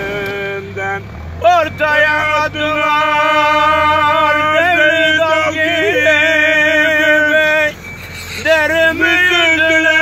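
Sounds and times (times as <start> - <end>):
elderly man singing unaccompanied: 0.0 - 10.0.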